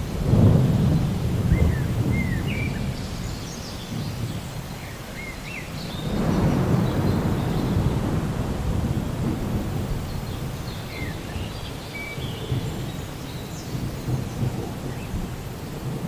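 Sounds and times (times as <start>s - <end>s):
low rolls of thunder: 0.0s - 16.0s
steady rain: 0.0s - 16.0s.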